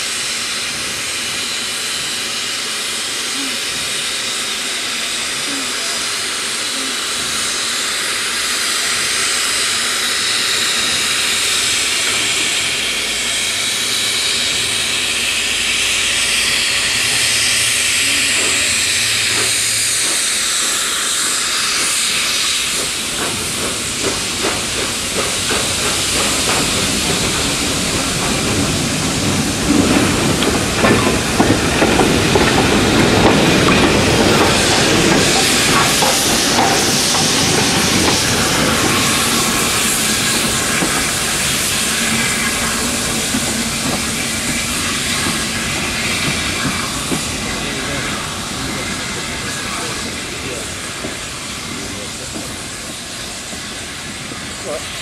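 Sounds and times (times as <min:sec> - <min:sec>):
steam hissing: 0:00.0 - 0:55.0
steam locomotive exhaust beats: 0:00.0 - 0:55.0.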